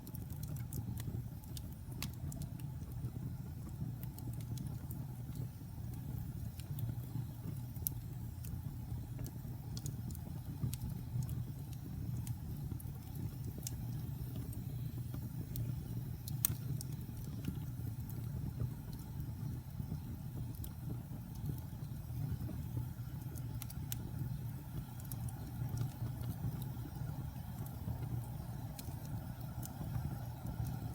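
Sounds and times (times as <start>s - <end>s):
logs crackling and popping: 0.0s - 30.9s
low rumble of flames: 0.0s - 30.9s.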